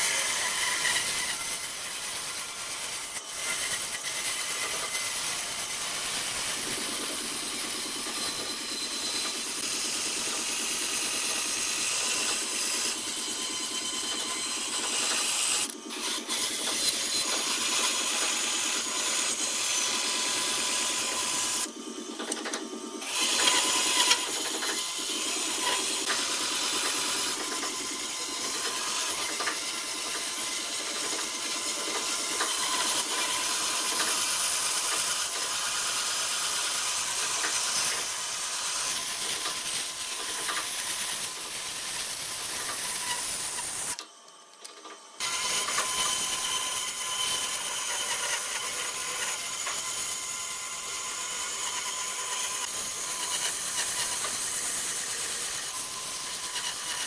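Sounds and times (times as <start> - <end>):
bandsaw cutting wood: 0.0 - 44.0, 45.2 - 57.0.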